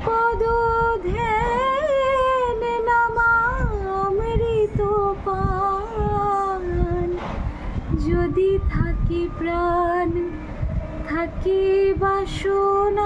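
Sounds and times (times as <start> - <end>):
woman singing slow devotional song: 0.0 - 13.0.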